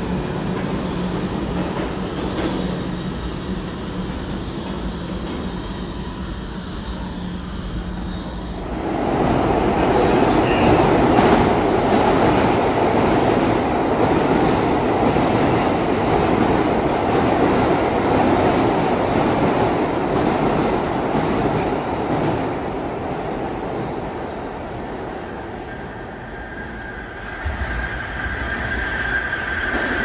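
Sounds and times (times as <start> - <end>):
subway train passing at speed: 0.0 - 30.0.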